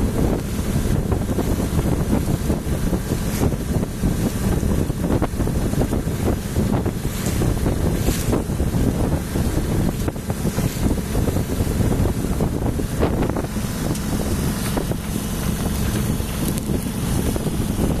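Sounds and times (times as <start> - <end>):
water slapping along hull: 0.0 - 18.0
wind buffeting microphone: 0.0 - 18.0.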